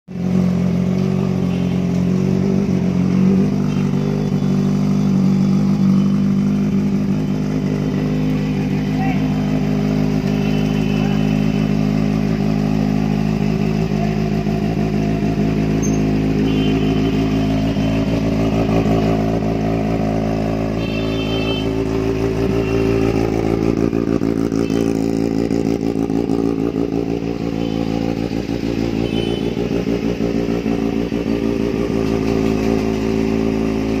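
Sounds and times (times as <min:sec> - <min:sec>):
motorcycle engine idling: 0:00.1 - 0:34.0.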